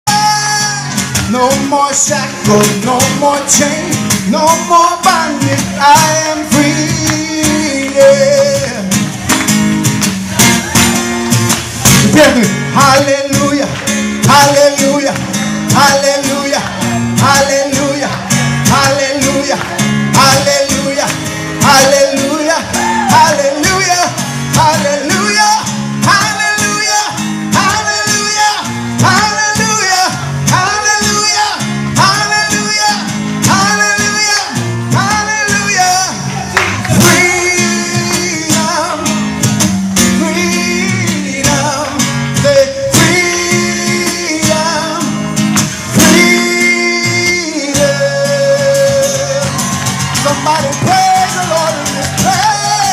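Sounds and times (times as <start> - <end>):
man singing: 0.0 - 9.2, 11.9 - 52.9
guitar accompaniment: 0.0 - 52.9.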